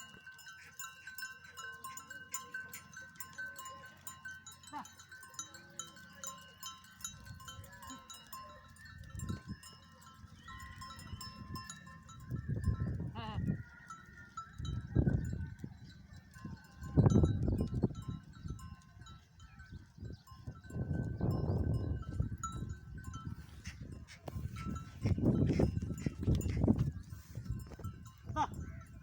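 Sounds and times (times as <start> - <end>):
small bells clinking: 0.0 - 29.0.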